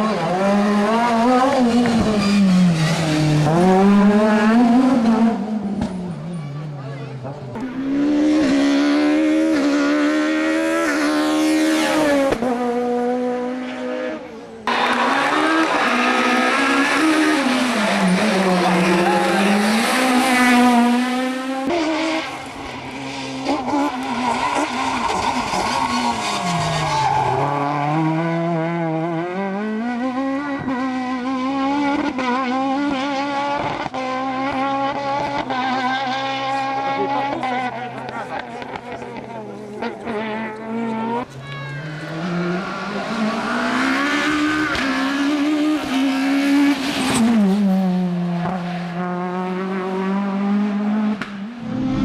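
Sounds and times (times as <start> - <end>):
rally car engines revving high: 0.0 - 52.0.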